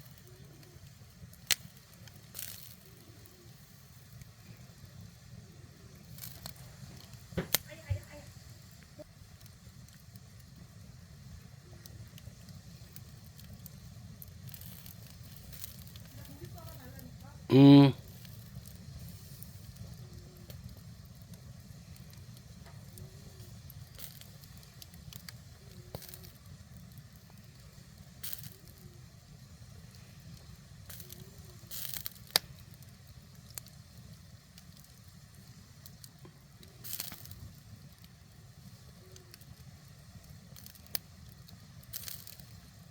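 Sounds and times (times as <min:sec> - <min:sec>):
fire popping: 0:00.0 - 0:42.9
wood fire crackling: 0:00.0 - 0:42.9.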